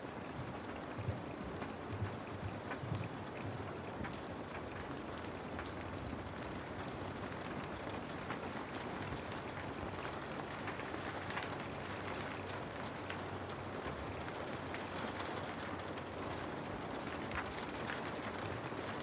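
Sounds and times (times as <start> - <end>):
rain pattering on a window: 0.0 - 19.0.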